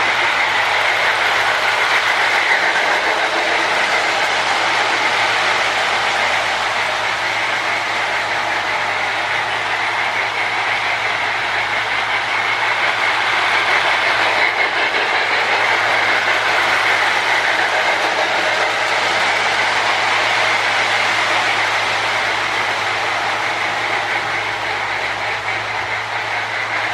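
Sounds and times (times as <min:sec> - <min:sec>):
toy train hissing steam chugging: 0:00.0 - 0:26.9.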